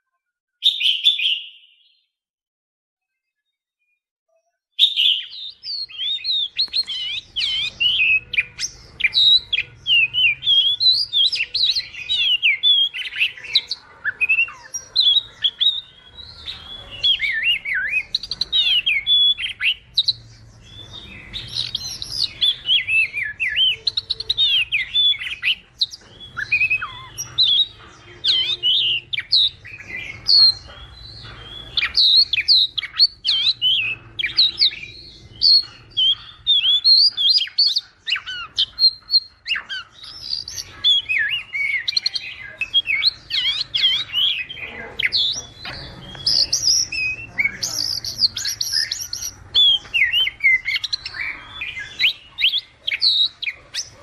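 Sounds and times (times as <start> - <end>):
songbirds chirping: 0.0 - 2.2, 3.1 - 54.0.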